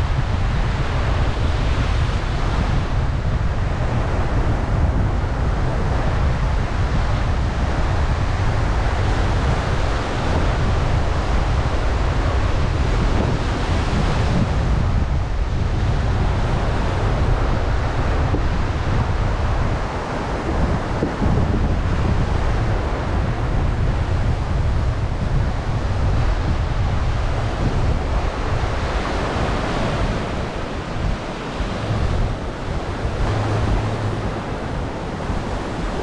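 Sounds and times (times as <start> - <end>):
surf breaking on rocky shore: 0.0 - 36.0
wind buffeting microphone: 0.0 - 36.0.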